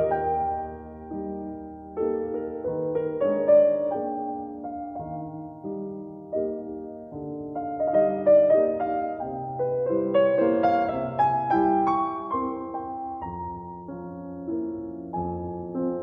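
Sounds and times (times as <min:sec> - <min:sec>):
gentle solo piano melody: 0:00.0 - 0:16.0.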